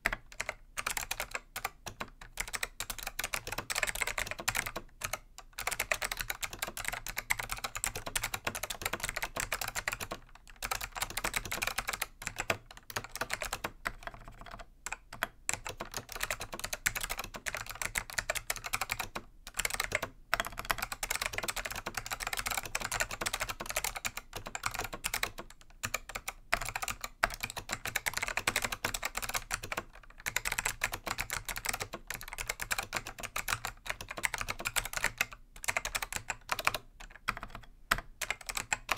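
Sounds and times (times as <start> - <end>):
clicky keyboard typing: 0.0 - 38.9.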